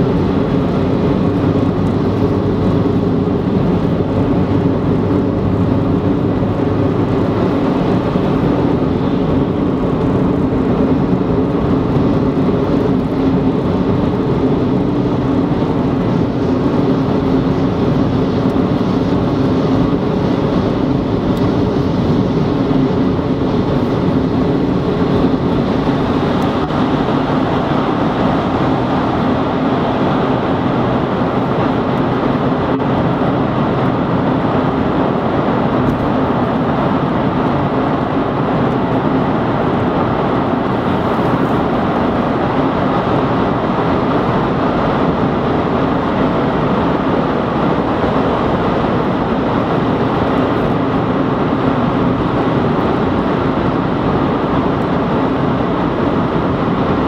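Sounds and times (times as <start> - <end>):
low engine hum: 0.0 - 57.0
tyre roar inside car: 0.0 - 57.0.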